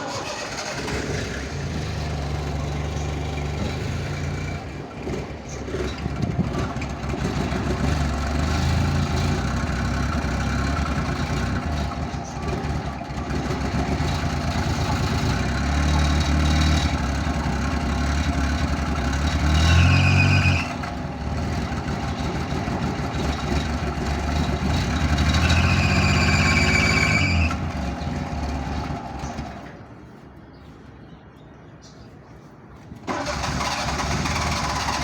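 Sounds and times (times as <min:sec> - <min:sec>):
car engine revving roughly: 0:00.0 - 0:29.6, 0:33.1 - 0:35.0.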